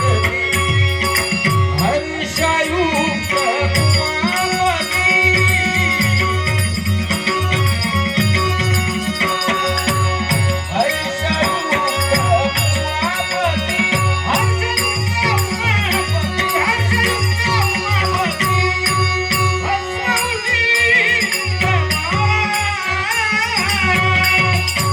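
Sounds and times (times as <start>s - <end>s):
clinking hand cymbals: 0.0s - 24.9s
keyboard-like drones: 0.0s - 24.9s.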